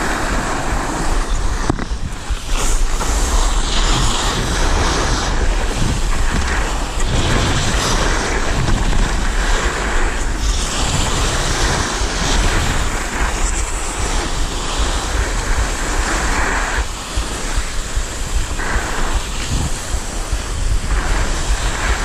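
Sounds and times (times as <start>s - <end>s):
skis scraping over packed snow: 0.0s - 22.0s
wind buffeting microphone: 0.0s - 22.0s.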